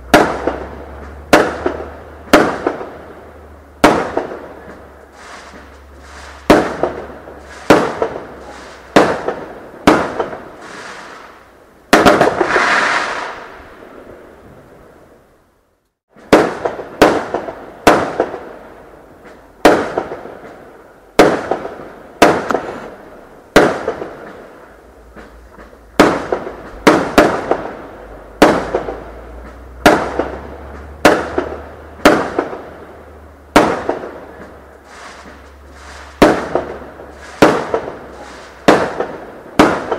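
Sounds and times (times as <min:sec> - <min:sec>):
fireworks exploding: 0:00.0 - 0:15.0, 0:16.2 - 0:39.9.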